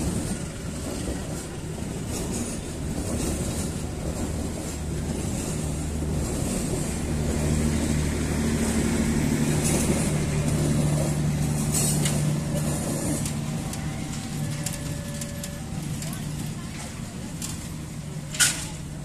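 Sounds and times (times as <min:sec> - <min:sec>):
train carriages rolling on rails: 0:00.0 - 0:19.0.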